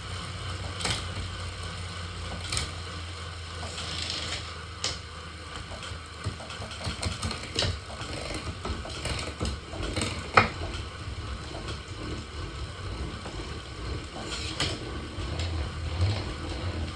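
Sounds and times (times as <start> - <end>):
bicycle drivetrain humming and clicking: 0.0 - 16.9.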